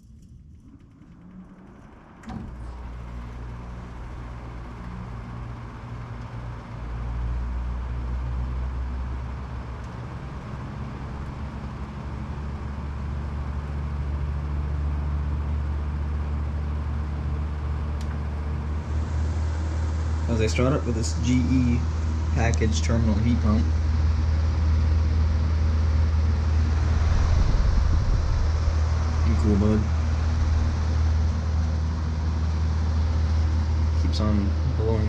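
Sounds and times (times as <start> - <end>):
compressor humming: 0.0 - 35.0
fan air rushing: 0.0 - 35.0.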